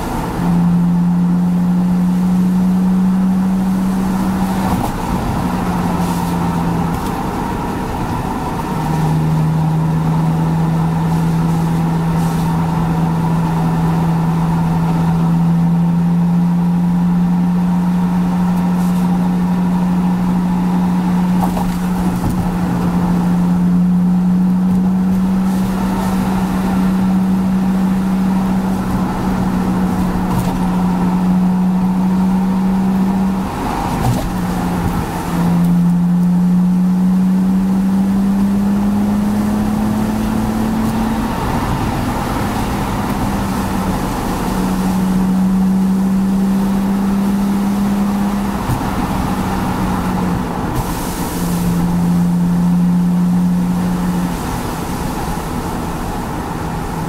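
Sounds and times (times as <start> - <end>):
car engine running under throttle: 0.0 - 57.0.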